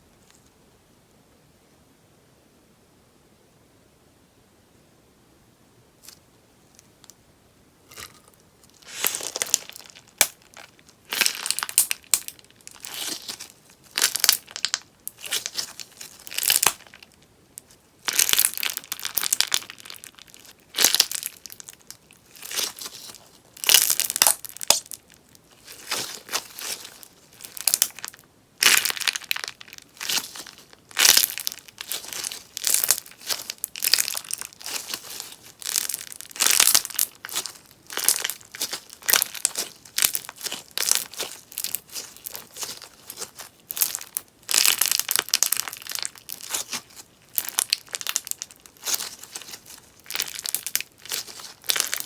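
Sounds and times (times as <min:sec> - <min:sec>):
slime crackling and popping: 0:07.9 - 0:52.0.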